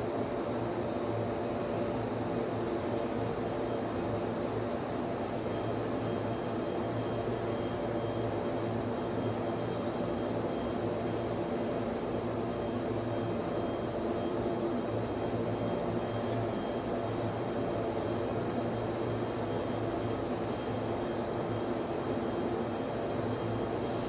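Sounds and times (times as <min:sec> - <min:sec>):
server fans humming: 0:00.0 - 0:24.0.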